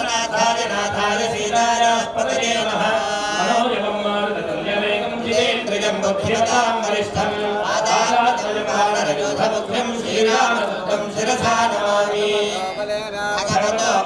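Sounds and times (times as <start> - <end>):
men chanting: 0.0 - 14.0.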